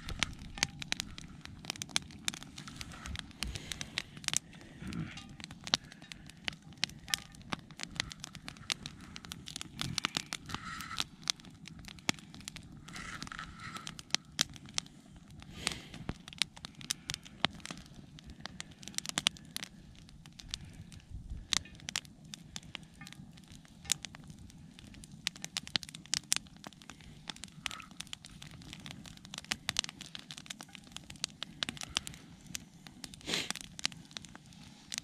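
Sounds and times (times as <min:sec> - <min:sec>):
meat fat crackling and popping: 0:00.0 - 0:35.0.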